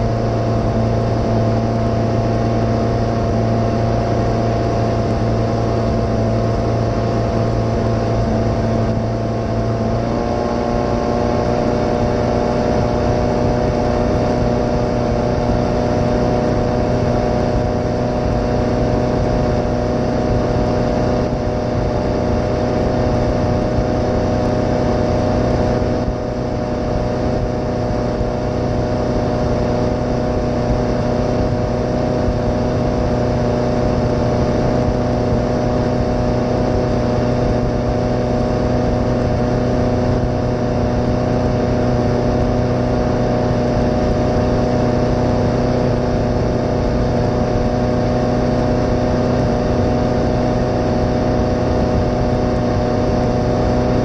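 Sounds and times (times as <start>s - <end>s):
boat engine running: 0.0s - 54.0s
wind noise: 0.0s - 54.0s.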